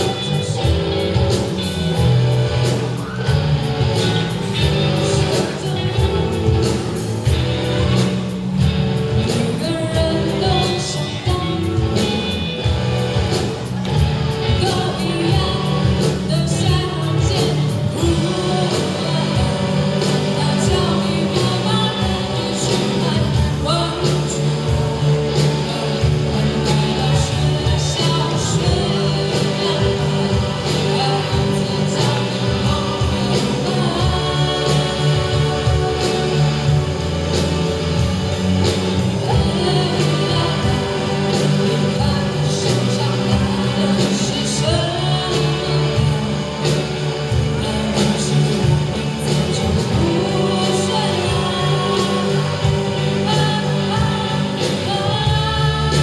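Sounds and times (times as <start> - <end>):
person singing: 0.0 - 56.0
rock band playing: 0.0 - 56.0.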